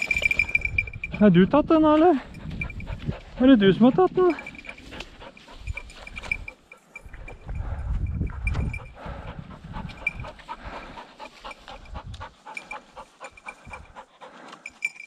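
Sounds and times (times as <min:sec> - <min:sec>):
dog panting quickly: 0:02.0 - 0:15.0.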